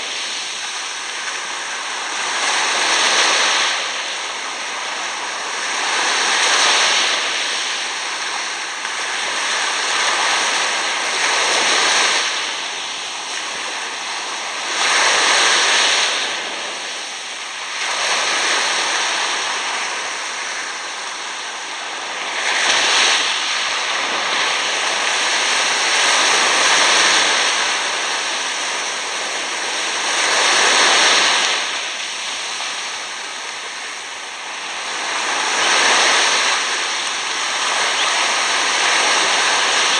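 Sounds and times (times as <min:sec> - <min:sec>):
small waves washing on sand: 0:00.0 - 0:39.9.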